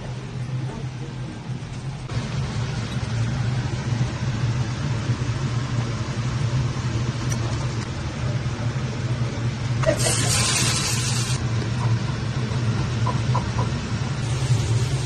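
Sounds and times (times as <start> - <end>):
extractor fan humming: 1.5 - 15.0.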